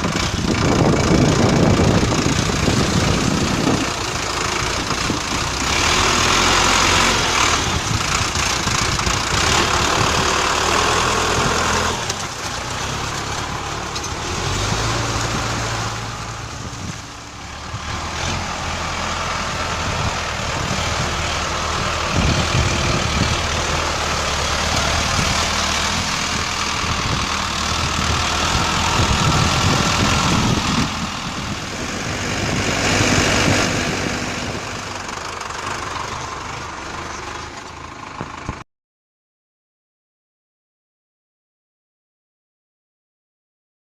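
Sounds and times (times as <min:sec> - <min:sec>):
tractor diesel engine running: 0:00.0 - 0:38.6.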